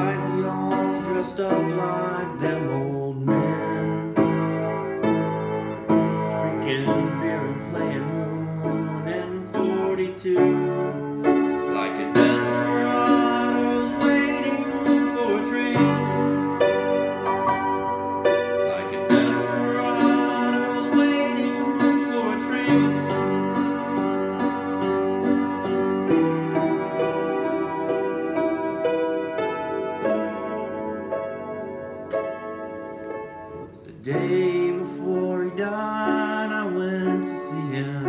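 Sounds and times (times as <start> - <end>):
solo piano playing chords: 0.0 - 38.0.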